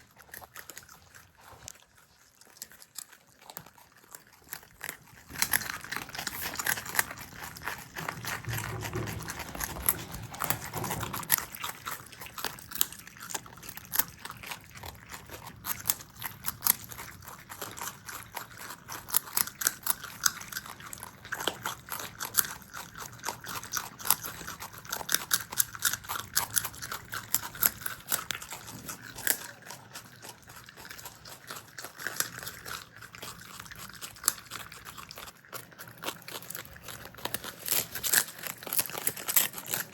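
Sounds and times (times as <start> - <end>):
animals crunching food: 0.0 - 39.9.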